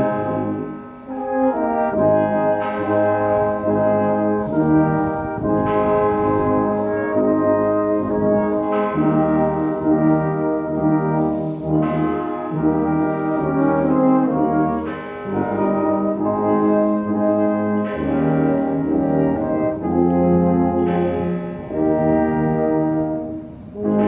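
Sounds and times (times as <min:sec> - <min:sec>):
brass band playing slow chords: 0:00.0 - 0:24.0.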